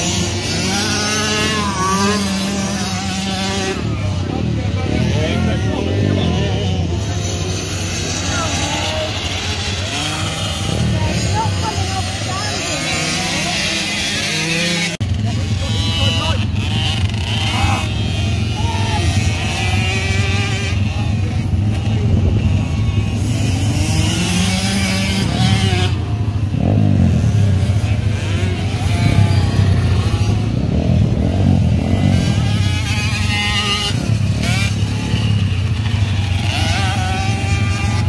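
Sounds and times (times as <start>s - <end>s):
small motocross bike engines revving: 0.0s - 38.0s.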